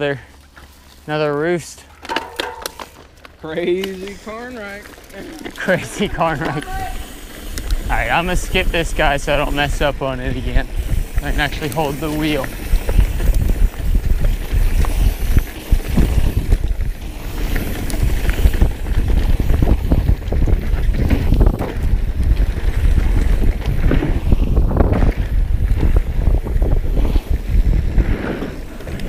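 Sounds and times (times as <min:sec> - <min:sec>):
bike rattling: 0:00.0 - 0:29.0
tyres rolling over dirt: 0:00.0 - 0:29.0
wind buffeting microphone: 0:05.6 - 0:29.0.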